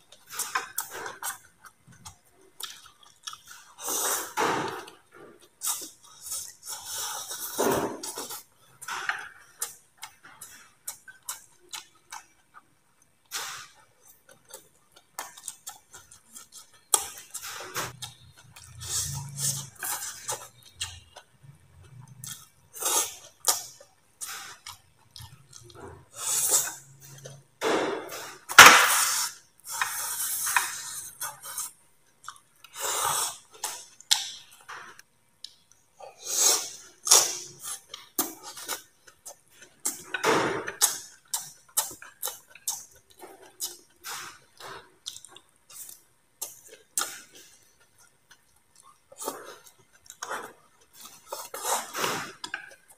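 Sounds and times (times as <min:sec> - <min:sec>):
man chewing: 0:00.0 - 0:52.9.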